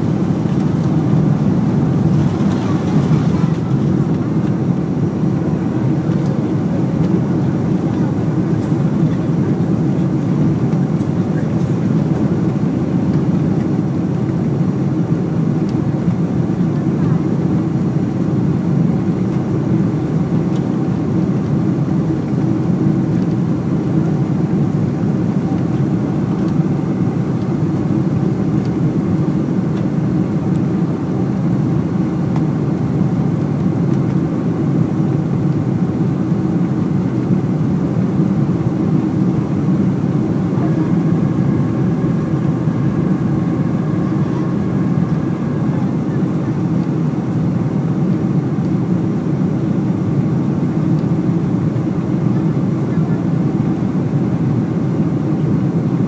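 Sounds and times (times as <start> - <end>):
jet engines droning: 0.0 - 56.0
rush of air in cabin: 0.0 - 56.0.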